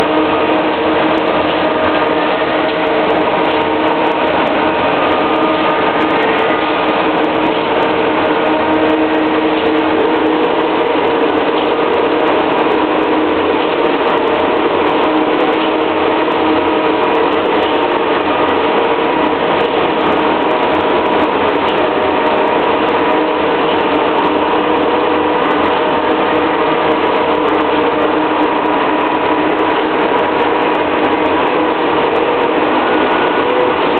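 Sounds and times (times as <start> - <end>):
heavy diesel machinery running: 0.0 - 33.9.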